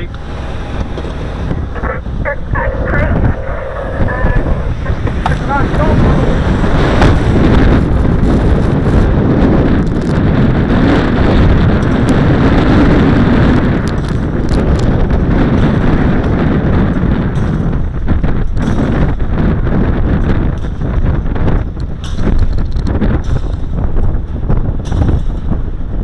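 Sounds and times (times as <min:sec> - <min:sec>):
truck engine running: 0:00.0 - 0:26.0
wind rumbling on microphone: 0:00.0 - 0:26.0.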